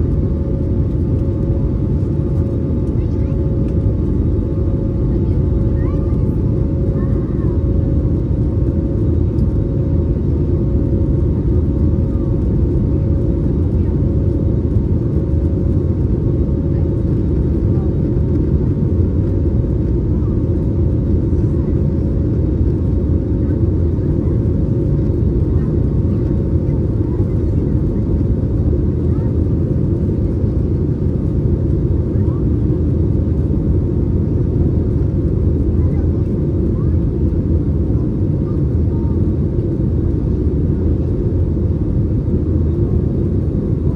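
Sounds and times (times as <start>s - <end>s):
aircraft cabin engine rumble: 0.0s - 43.9s
constant hum: 0.0s - 43.9s.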